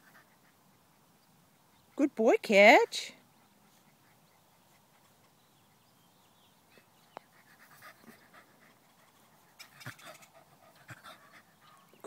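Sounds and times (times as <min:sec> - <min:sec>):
dog panting: 0:00.0 - 0:02.0, 0:03.2 - 0:12.0.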